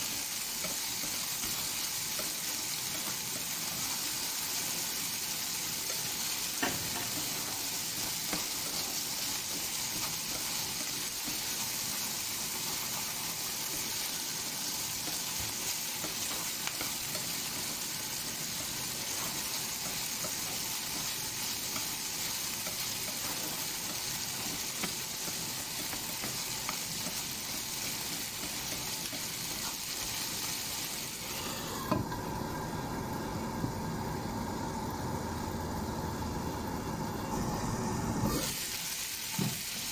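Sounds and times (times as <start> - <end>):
meat and onion sizzling: 0.0 - 39.9.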